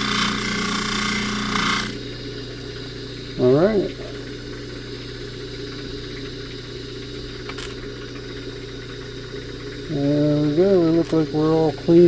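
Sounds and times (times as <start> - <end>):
polishing motor humming: 0.0 - 12.0.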